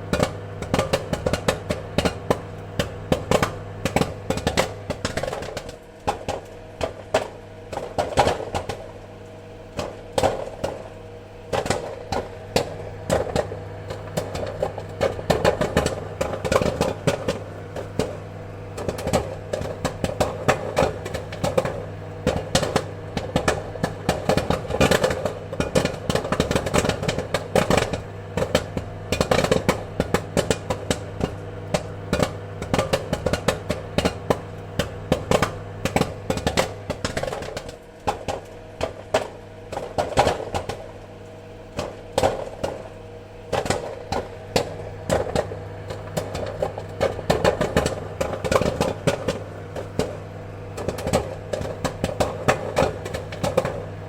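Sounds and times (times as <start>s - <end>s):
popcorn popping: 0.0s - 54.0s.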